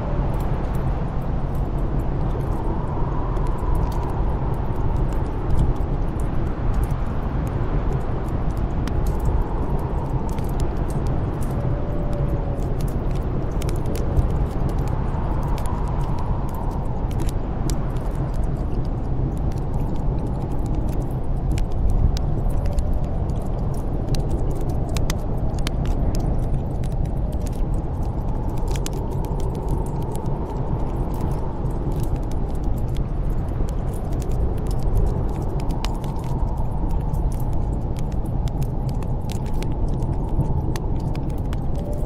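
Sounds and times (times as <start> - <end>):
snowstorm wind whistling: 0.0 - 42.0
wood fire crackling: 0.1 - 42.0.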